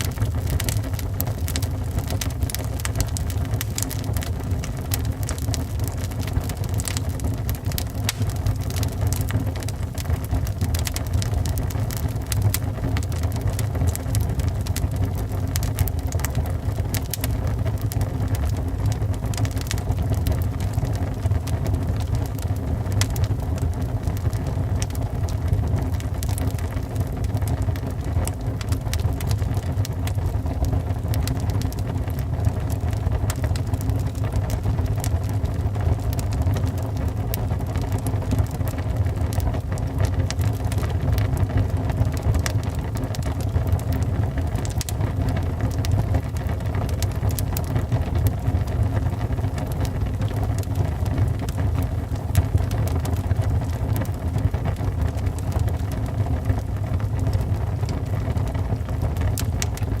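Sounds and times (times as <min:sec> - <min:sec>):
fire flames rumbling: 0:00.0 - 1:00.0
wood crackling and popping: 0:00.0 - 1:00.0.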